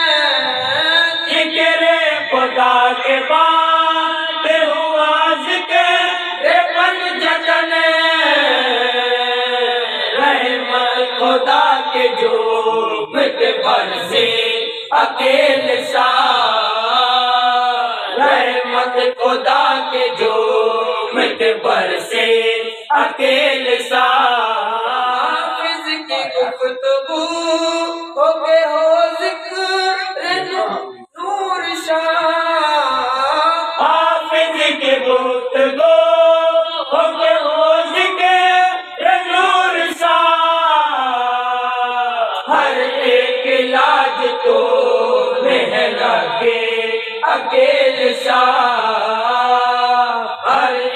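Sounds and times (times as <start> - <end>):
men chanting devotional recitation: 0.0 - 50.9.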